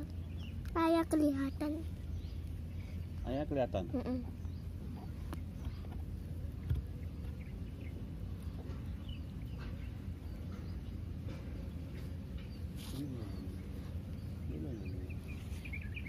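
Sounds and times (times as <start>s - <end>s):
faint bird chirps: 0.0s - 16.0s
low background rumble: 0.0s - 16.0s.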